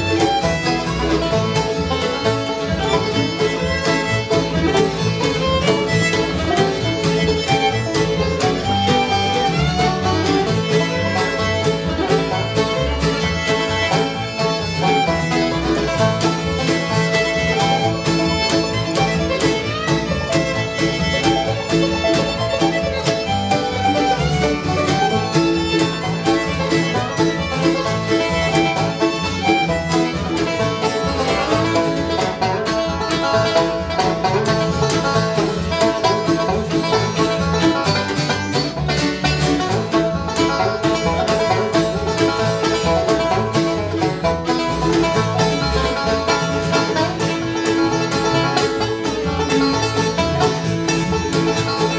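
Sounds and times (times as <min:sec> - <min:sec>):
acoustic guitar: 0:00.0 - 0:51.9
banjo: 0:00.0 - 0:51.9
fiddle: 0:00.0 - 0:51.9
mandolin: 0:00.0 - 0:51.9
upright bass: 0:00.0 - 0:51.9.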